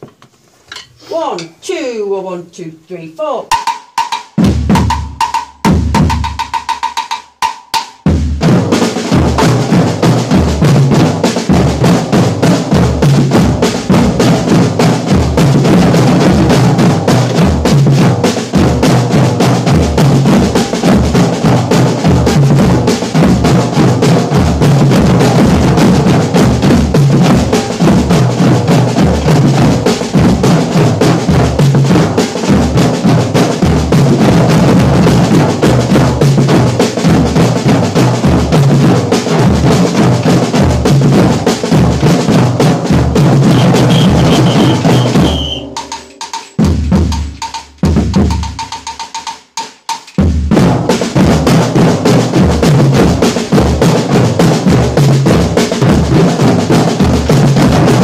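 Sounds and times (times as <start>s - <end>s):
drummers playing snare and toms: 3.0s - 58.0s.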